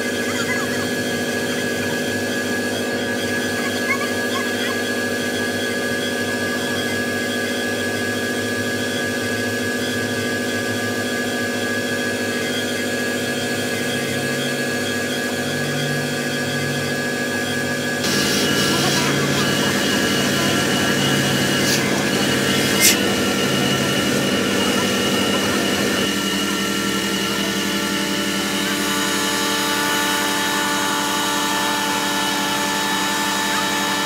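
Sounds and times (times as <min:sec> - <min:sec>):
air compressor running: 0:00.0 - 0:34.0.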